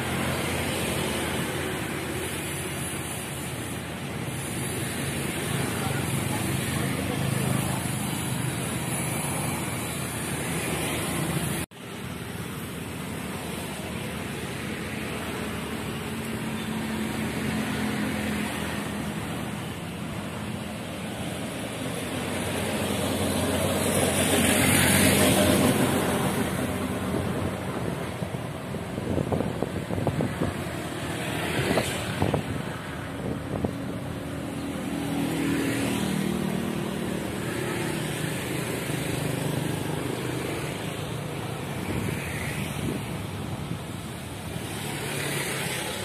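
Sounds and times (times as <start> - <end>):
traffic noise: 0.0 - 46.0.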